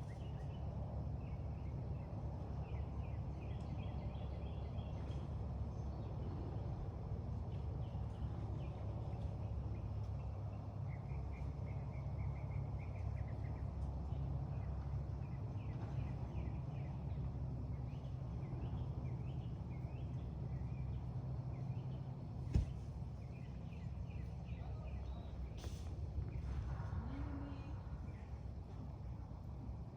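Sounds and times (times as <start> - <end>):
low outdoor rumble: 0.0 - 29.9.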